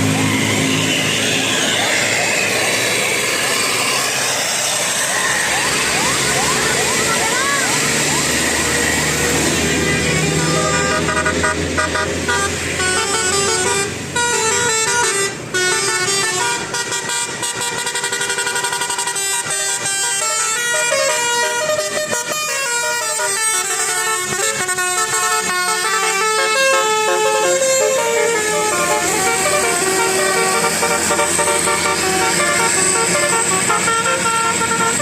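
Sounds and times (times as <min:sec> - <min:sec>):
bus multi-tone horn melody: 0:05.6 - 0:35.0.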